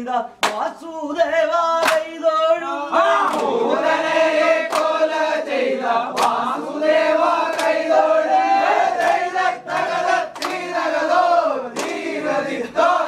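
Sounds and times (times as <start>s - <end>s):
men singing in chorus: 0.0s - 13.0s
sharp claps: 0.4s - 0.9s, 1.7s - 2.4s, 3.0s - 13.0s.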